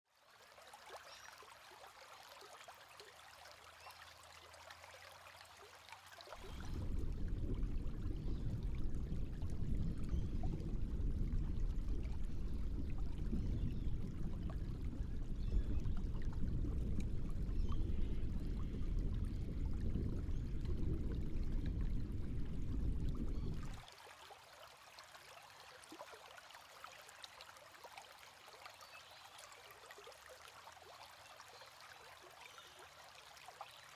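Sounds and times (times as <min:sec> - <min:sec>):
low rushing water: 0:00.2 - 0:33.9
water trickling: 0:00.2 - 0:33.9.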